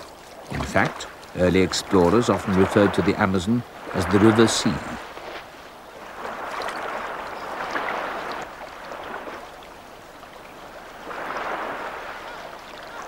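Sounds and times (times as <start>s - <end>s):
river waves lapping: 0.0s - 13.0s.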